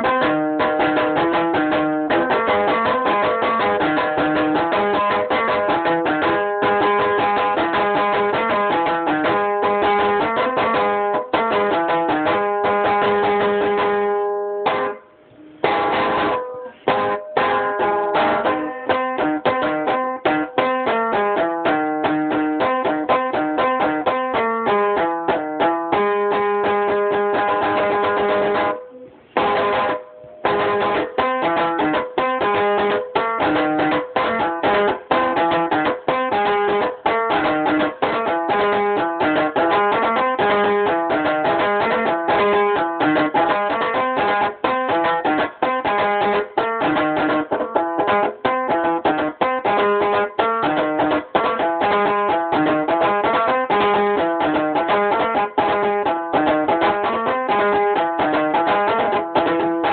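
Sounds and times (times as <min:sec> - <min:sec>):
plucked string instrument: 0:00.0 - 0:59.9
strummed chords: 0:00.0 - 0:59.9.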